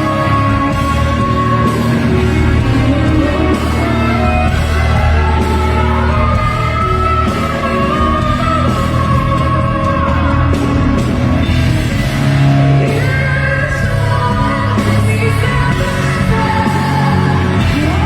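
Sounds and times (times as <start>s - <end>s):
band with heavy bass: 0.0s - 18.0s.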